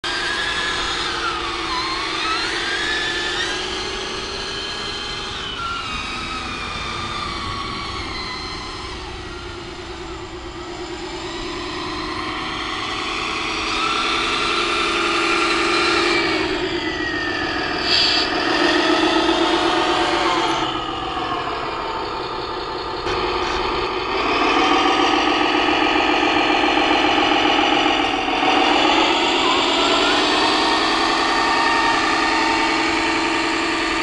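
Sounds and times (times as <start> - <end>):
toy truck motor whine: 0.0 - 34.0.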